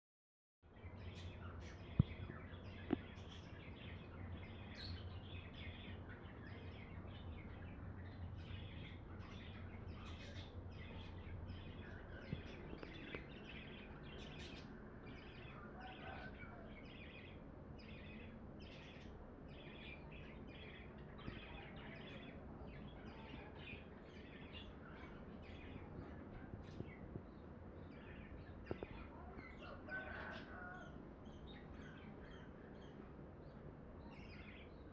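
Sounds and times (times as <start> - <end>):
small birds chirping: 0.7 - 34.9.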